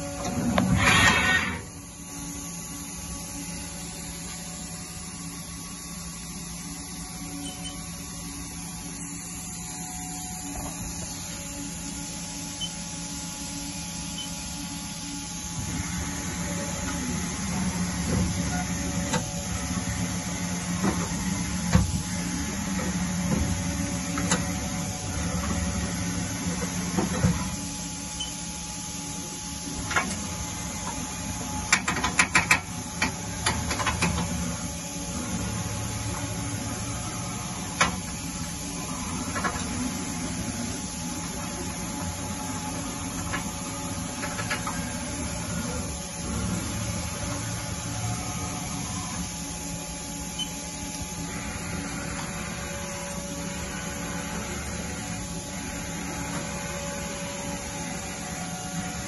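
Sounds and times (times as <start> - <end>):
machine mechanical hum: 0.0 - 59.0.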